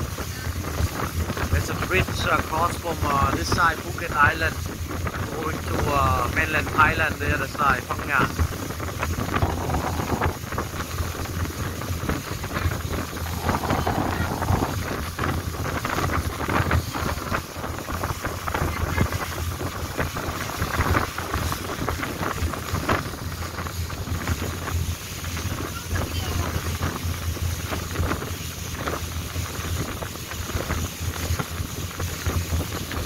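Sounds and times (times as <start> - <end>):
boat engine drone: 0.0 - 33.0
water rushing past hull: 0.0 - 33.0
wind buffeting microphone: 0.0 - 33.0.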